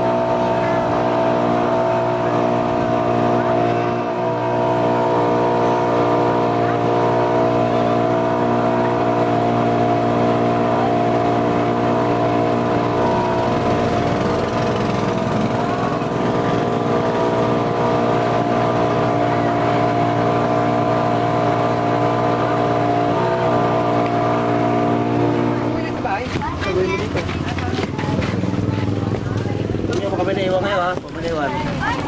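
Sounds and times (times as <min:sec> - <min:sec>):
boat engine running: 0:00.0 - 0:32.0
water rushing along hull: 0:00.0 - 0:32.0.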